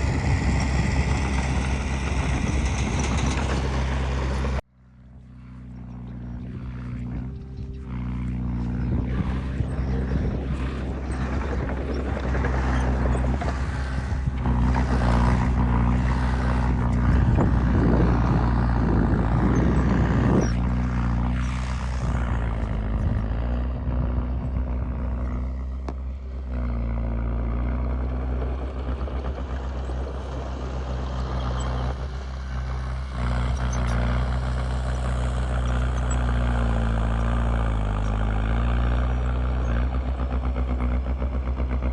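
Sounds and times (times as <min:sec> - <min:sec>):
rattling and clanking: 0:00.0 - 0:04.6, 0:05.7 - 0:41.9
diesel earthmoving machinery running: 0:00.0 - 0:41.9.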